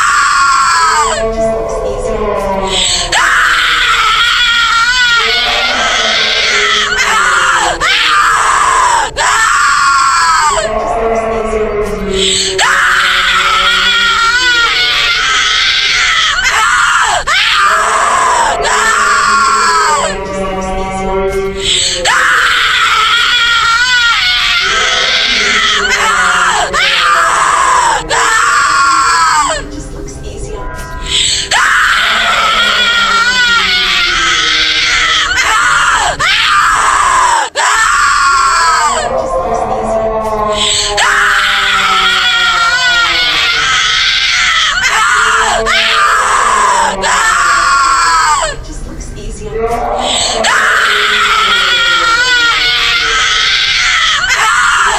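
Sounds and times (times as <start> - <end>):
shrill screaming: 0.0 - 11.3, 12.1 - 29.7, 30.9 - 48.6, 49.8 - 54.9.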